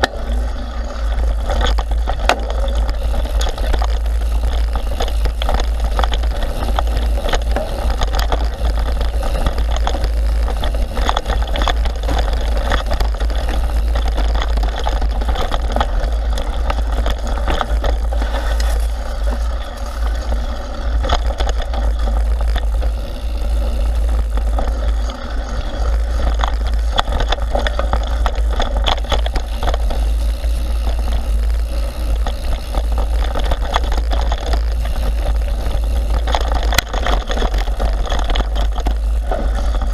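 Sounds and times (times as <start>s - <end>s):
bike clicks and rattles: 0.0s - 39.9s
tyres on dirt trail: 0.0s - 39.9s.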